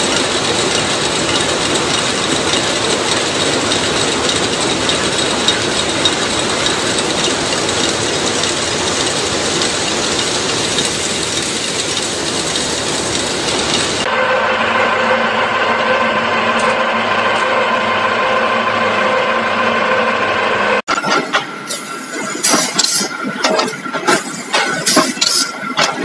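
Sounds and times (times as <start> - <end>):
factory machinery clatter and hum: 0.0 - 26.0.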